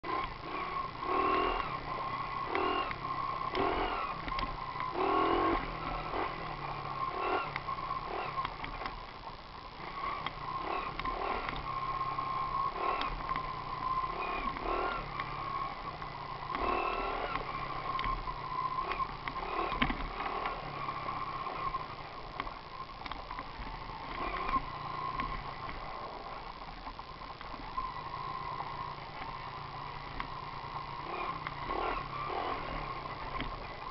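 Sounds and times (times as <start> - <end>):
small engine revving: 0.0 - 9.0, 9.8 - 26.5, 27.5 - 33.9.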